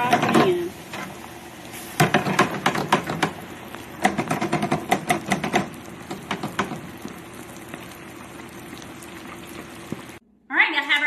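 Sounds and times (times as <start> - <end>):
fish frying in grease: 0.0 - 10.2
grease crackling and popping: 0.0 - 10.2.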